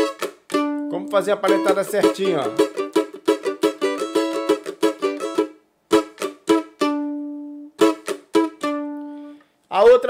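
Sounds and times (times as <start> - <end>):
strummed string chords: 0.0 - 9.4.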